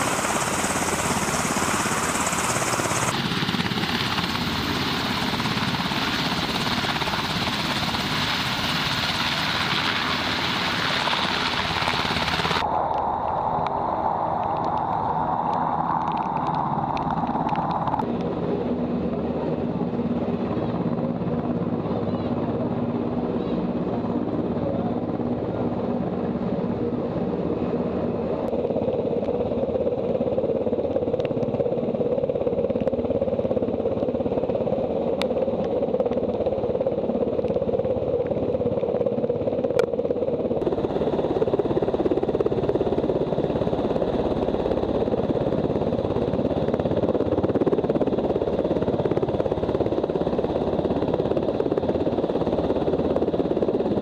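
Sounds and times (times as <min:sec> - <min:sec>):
helicopter engines and rotor: 0:00.0 - 0:54.0.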